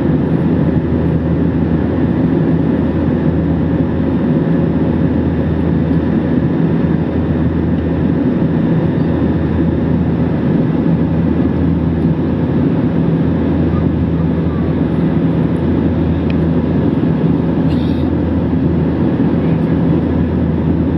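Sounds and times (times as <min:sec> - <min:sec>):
jet engine drone in cabin: 0:00.0 - 0:20.9.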